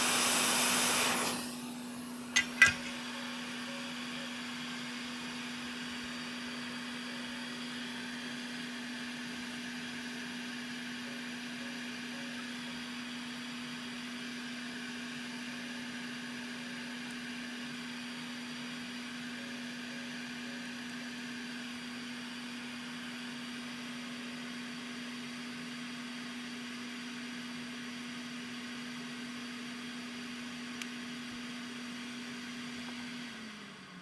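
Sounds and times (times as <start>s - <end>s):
small fan whirring: 0.0s - 34.0s.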